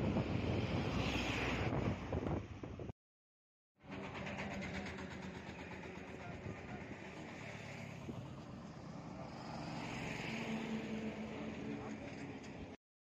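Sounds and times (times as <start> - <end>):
highway traffic passing: 0.0 - 2.9, 3.8 - 12.8.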